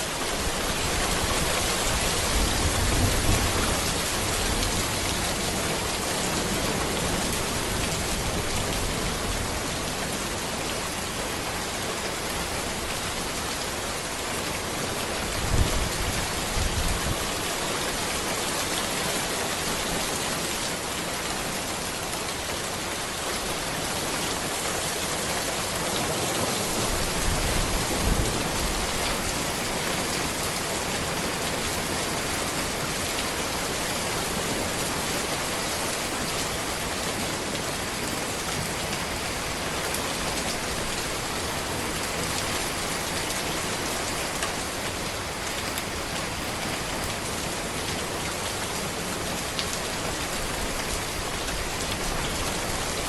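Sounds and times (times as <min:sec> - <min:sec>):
rain falling on road: 0:00.0 - 0:53.0.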